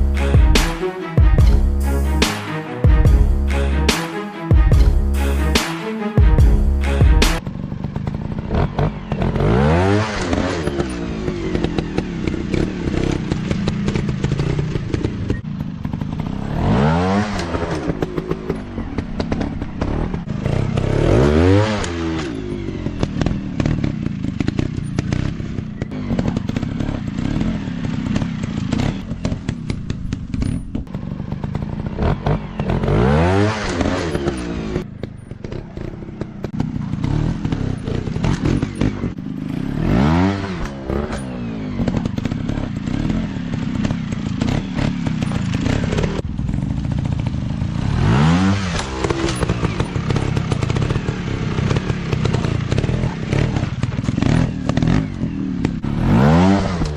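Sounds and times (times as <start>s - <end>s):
dirt bike engines revving: 6.8s - 56.9s.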